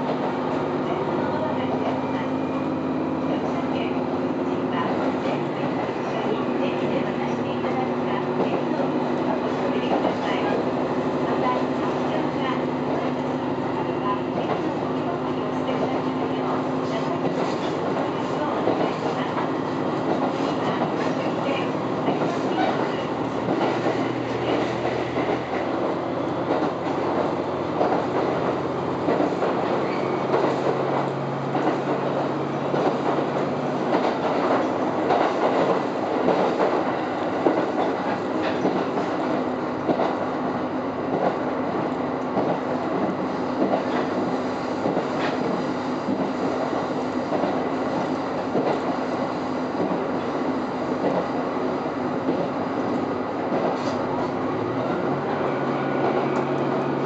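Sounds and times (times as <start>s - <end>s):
wheels rumbling on rails: 0.0s - 57.0s.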